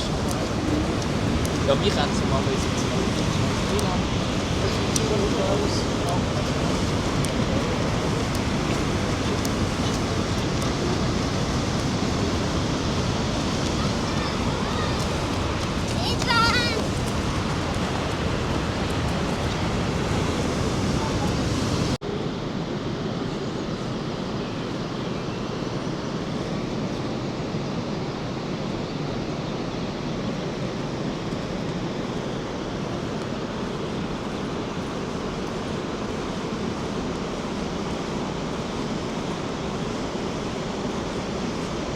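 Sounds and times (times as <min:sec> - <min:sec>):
waterfall roaring: 0:00.0 - 0:41.9.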